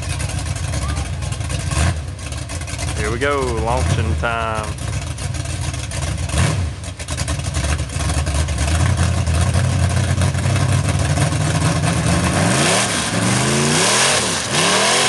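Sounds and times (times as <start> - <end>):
engine at full throttle: 0.0 - 15.0.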